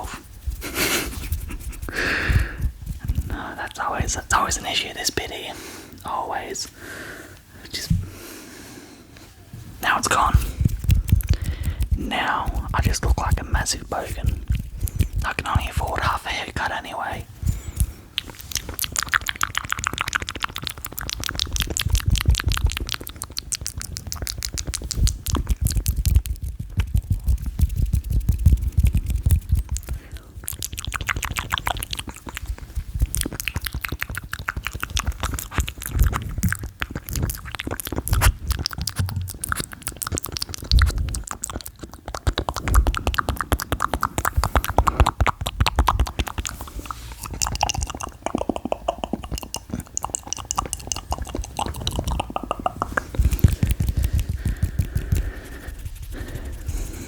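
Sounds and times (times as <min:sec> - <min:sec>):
mouth clicks and pops: 0:01.1 - 0:06.5, 0:09.8 - 0:57.0.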